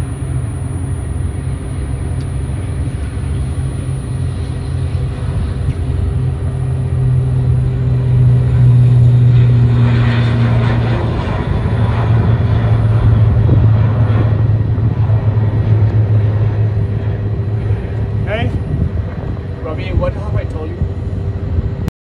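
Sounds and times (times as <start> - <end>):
turboprop aircraft engines droning: 0.0 - 21.9.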